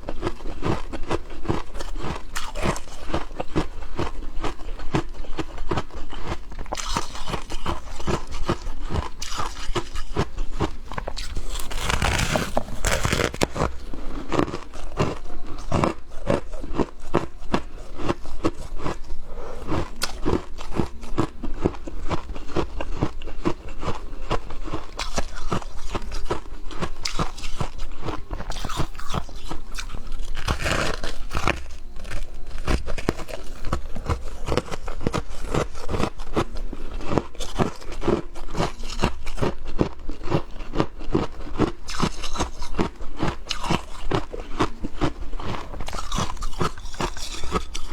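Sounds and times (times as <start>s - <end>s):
frost being chewed: 0.0s - 47.9s.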